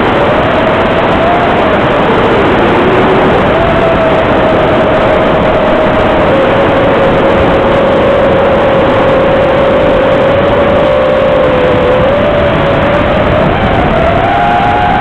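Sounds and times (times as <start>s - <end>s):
quadcopter motors whining: 0.0s - 15.0s
rough rush of noise: 0.0s - 15.0s.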